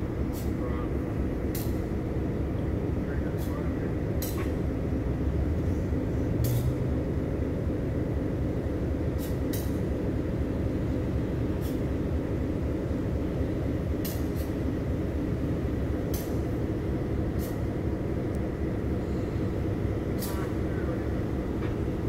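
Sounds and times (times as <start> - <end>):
locomotive idling rumble: 0.0 - 22.0.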